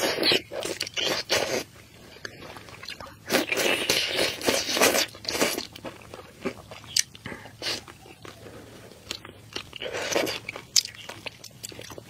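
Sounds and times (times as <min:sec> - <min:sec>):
person chewing soft food: 0:00.0 - 0:12.0.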